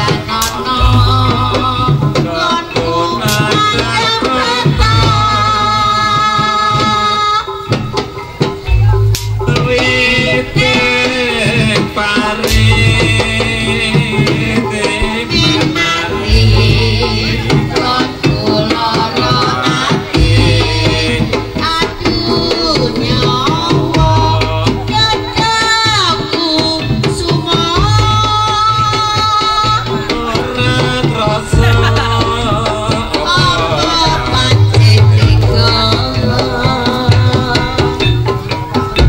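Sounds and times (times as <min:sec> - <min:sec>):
deep low drum stroke: 0:00.0 - 0:39.0
hand drums: 0:00.0 - 0:39.0
wavering melody line: 0:00.0 - 0:39.0.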